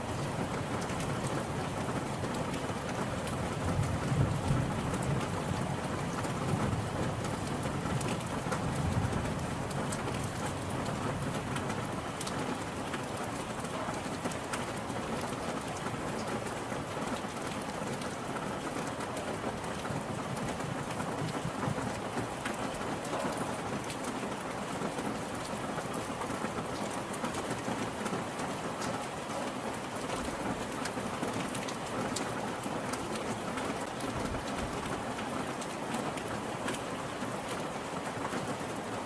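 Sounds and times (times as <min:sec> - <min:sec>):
rain pattering on surfaces: 0:00.0 - 0:39.0.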